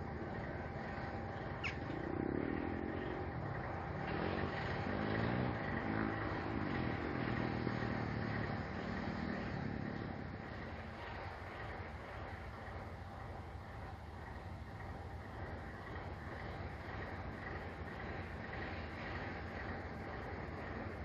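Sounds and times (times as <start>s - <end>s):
diesel locomotive engine running: 0.0s - 21.0s.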